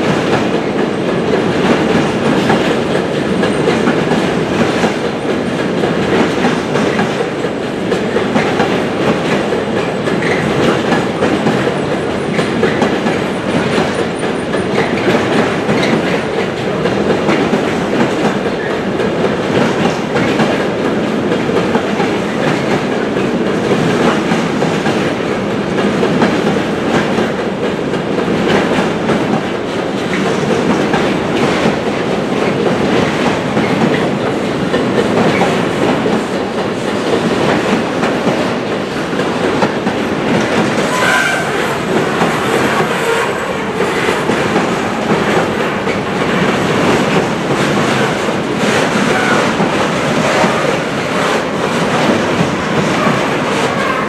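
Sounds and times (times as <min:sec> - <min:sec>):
freight train rumble: 0:00.0 - 0:54.0.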